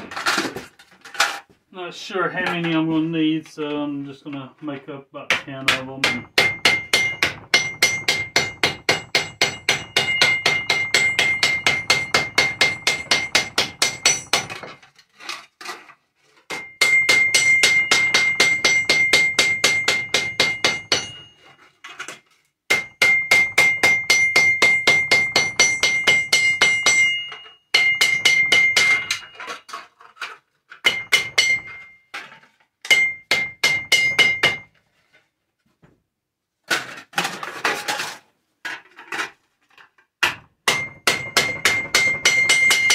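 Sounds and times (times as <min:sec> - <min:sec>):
hammer flattening tin cans: 0:00.0 - 0:01.5, 0:05.4 - 0:34.8, 0:36.6 - 0:42.9.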